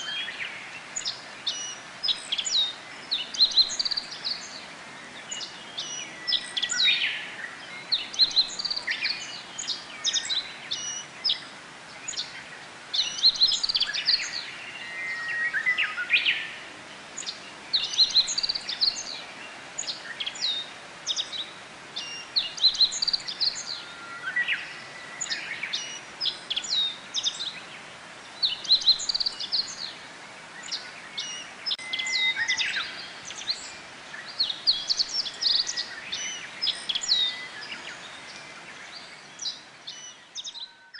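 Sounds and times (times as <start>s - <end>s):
birds chirping: 0.0s - 40.9s
faint background hiss: 0.0s - 40.9s.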